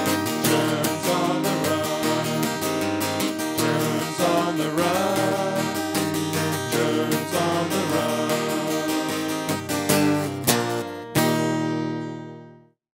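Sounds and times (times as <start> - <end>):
strummed acoustic guitar chords: 0.0 - 12.7.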